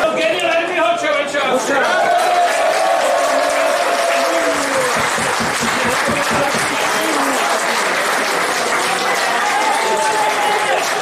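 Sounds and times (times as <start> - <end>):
spectators clapping: 0.3 - 11.0.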